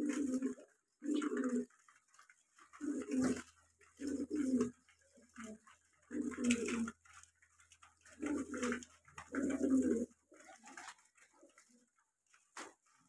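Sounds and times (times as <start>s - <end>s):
pigeons cooing: 0.0s - 11.8s.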